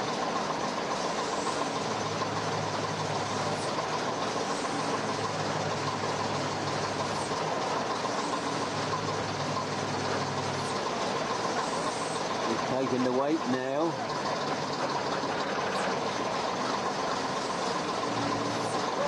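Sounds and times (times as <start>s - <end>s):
diesel engine running: 0.0s - 19.0s
hydraulic whine: 0.0s - 19.0s.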